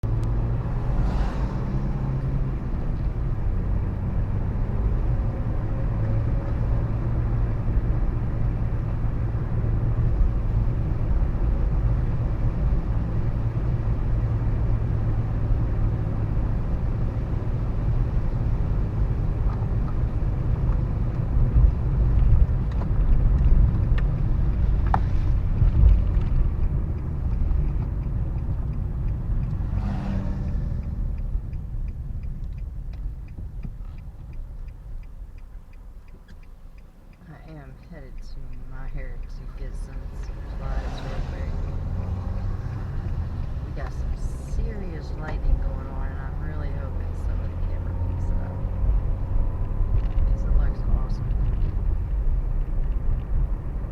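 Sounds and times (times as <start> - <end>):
car engine rumble: 0.0 - 53.9
road noise: 0.0 - 53.9.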